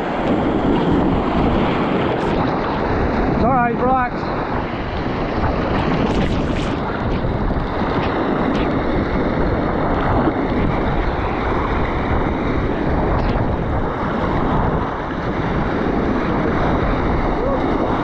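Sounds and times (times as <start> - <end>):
surf foaming over rocks: 0.0 - 18.0
wind buffeting microphone: 0.0 - 18.0.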